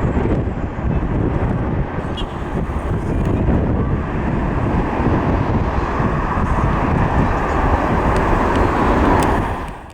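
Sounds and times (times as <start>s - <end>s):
jet engines at takeoff power: 0.0s - 9.9s.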